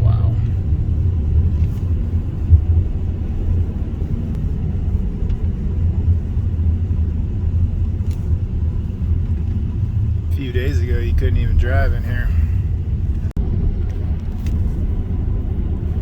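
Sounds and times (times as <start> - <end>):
car driving on road: 0.0 - 16.0.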